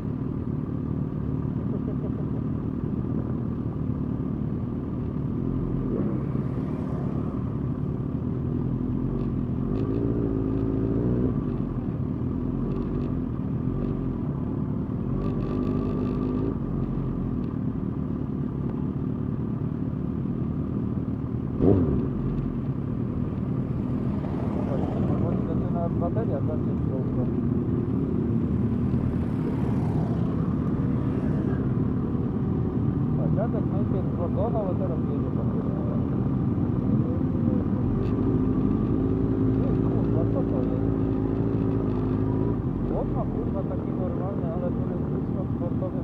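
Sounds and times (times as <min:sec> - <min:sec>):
motorcycle engines running: 0:00.0 - 0:46.0.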